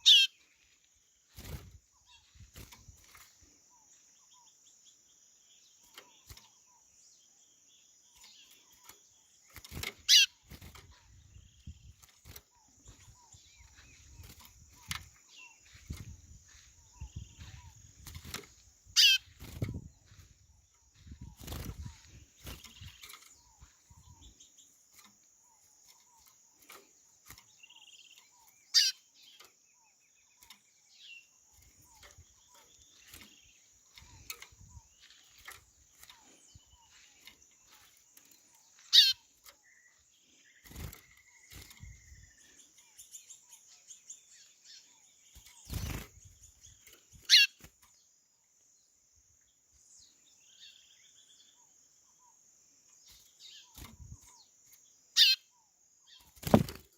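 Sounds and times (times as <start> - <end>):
faint bird chirps: 0.0 - 56.9.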